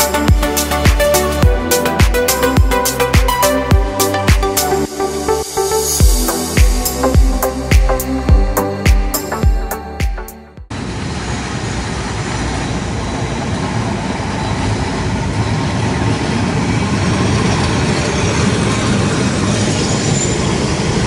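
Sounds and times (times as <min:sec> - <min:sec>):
tram running on rails: 0:00.0 - 0:21.0.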